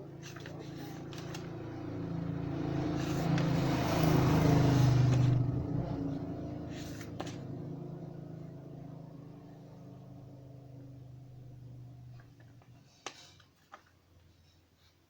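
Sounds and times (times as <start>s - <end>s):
vehicle engine passing: 0.0s - 12.9s.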